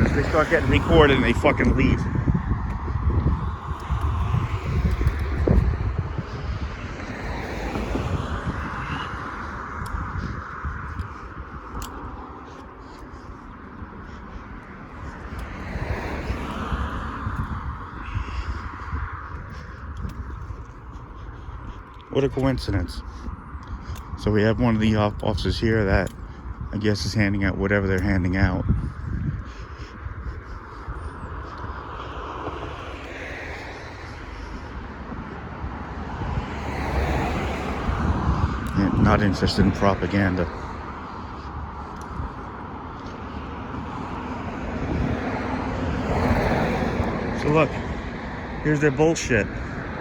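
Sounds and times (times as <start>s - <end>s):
car engine and road rumble: 0.0s - 50.0s
road and wind hiss: 0.0s - 50.0s.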